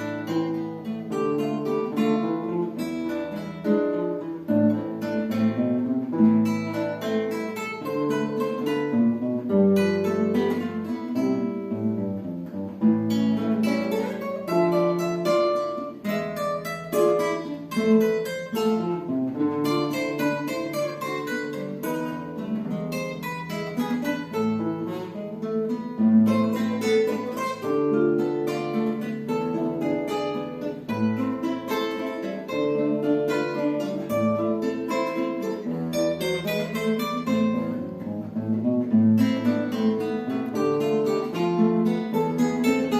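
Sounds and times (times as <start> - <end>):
acoustic guitar duet: 0.0 - 42.9.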